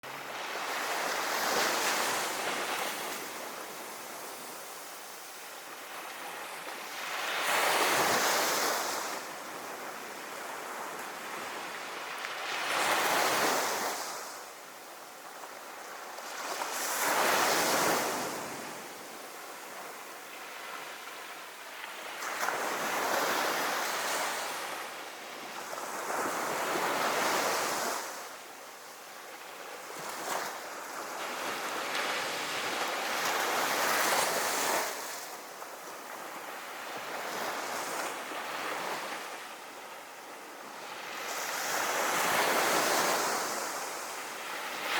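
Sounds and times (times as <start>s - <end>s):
sea waves breaking on a beach: 0.0s - 44.9s.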